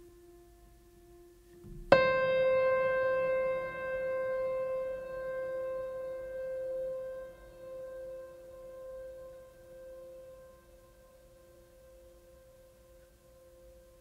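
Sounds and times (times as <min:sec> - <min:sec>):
piano-like note ringing: 0:00.0 - 0:14.0
soft low held tone: 0:00.0 - 0:14.0.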